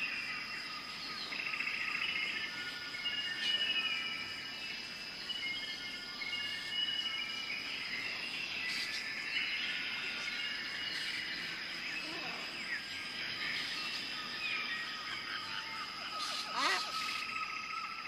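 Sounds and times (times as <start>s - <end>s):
birds whistling and calling: 0.0s - 18.0s
high-pitched insect drone: 0.0s - 18.0s.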